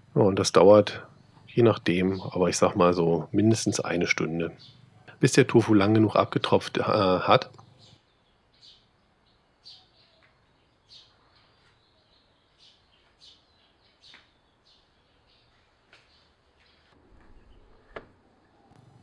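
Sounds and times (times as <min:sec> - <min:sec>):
faint bird chirps: 0:00.1 - 0:06.5, 0:07.2 - 0:18.8.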